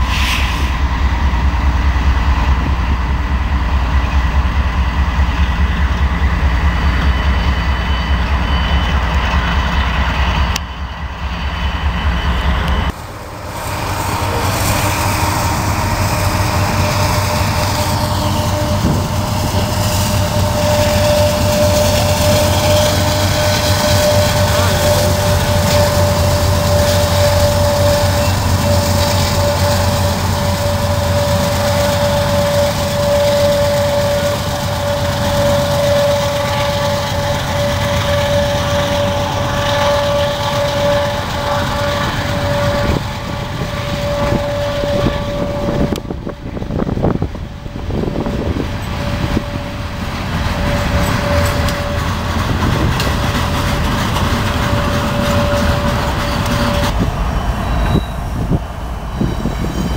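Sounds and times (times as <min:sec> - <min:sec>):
diesel locomotives running: 0:00.0 - 0:59.9
freight cars rolling on rails: 0:00.0 - 0:59.9.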